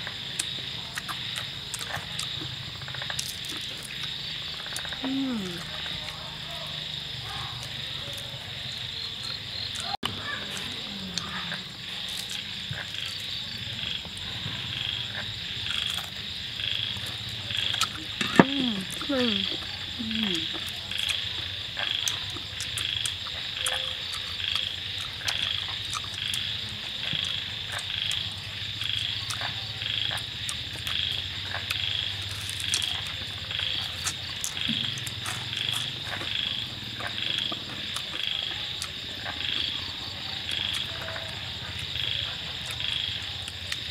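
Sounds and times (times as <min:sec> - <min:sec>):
crunchy chewing clicks: 0:00.0 - 0:43.9
frogs and insects calling: 0:00.0 - 0:43.9.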